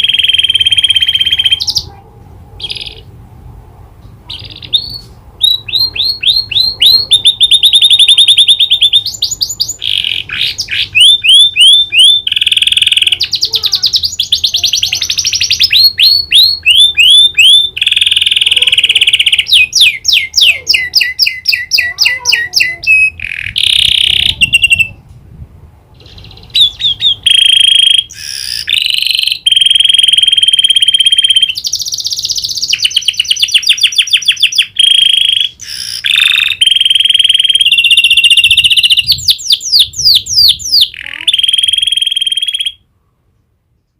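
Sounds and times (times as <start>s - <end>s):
canary singing in fast trills: 0.0s - 2.0s, 4.2s - 25.0s, 26.0s - 42.8s.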